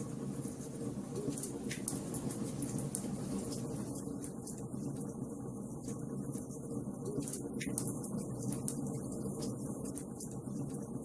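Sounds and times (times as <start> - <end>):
fire burning in fireplace: 0.0 - 11.0
fire crackling: 0.0 - 11.0.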